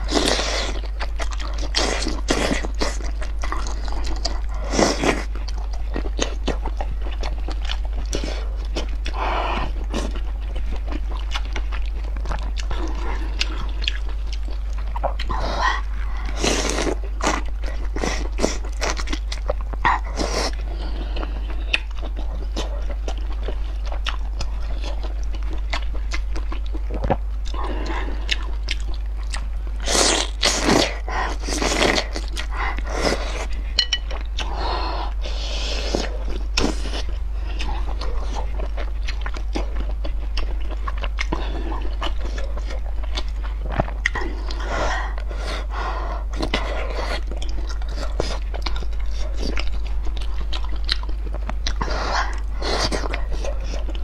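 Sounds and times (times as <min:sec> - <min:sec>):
low hum: 0:00.0 - 0:54.0
slurping and chewing noodles: 0:00.0 - 0:54.0.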